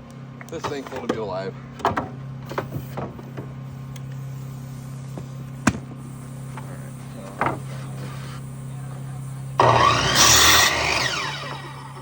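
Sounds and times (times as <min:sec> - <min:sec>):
generator humming: 0:00.0 - 0:12.0.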